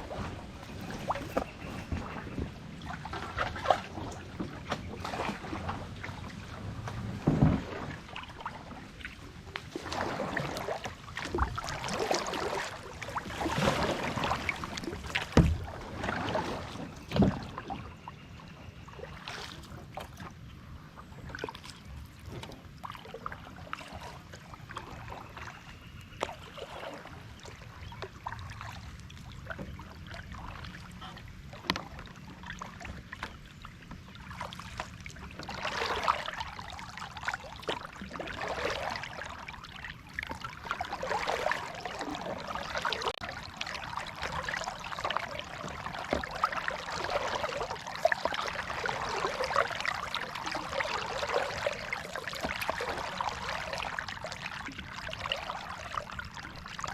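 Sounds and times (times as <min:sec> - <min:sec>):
paddle strokes splashing water: 0:00.0 - 0:56.9.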